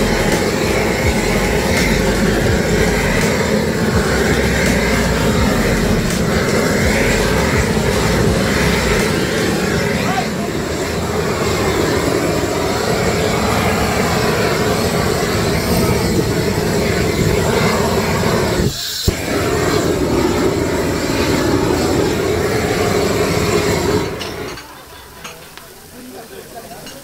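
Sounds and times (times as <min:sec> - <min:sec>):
gas torch flame rushing: 0:00.0 - 0:26.1.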